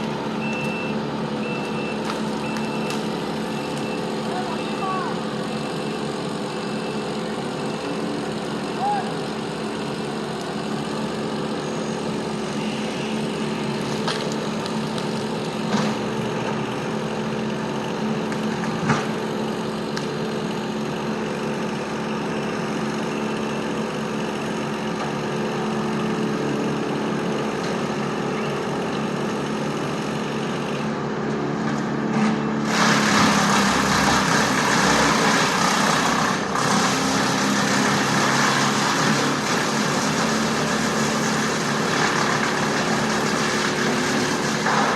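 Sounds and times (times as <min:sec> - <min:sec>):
loud rough machine noise: 0:00.0 - 0:44.9
machinery engine running: 0:00.0 - 0:44.9.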